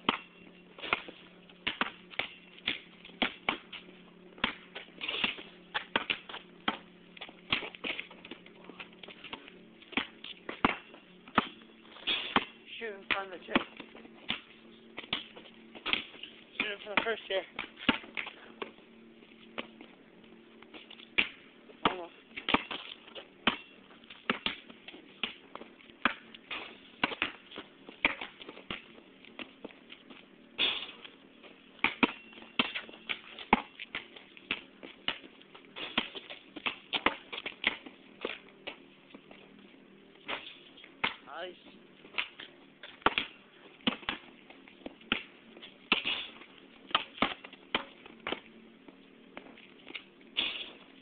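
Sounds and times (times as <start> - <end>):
basketball bouncing on pavement: 0.0 - 51.0
faint steady hum: 0.0 - 51.0.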